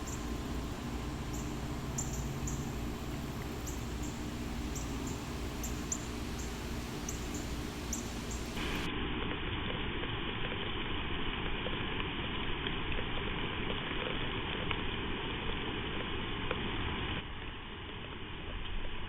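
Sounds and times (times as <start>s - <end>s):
heavy rain and wind hiss: 0.0s - 19.0s.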